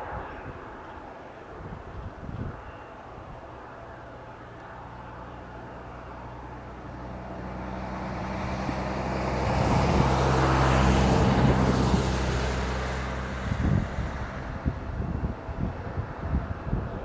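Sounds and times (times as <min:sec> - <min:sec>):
jet airliner engine hum: 0:00.0 - 0:17.0.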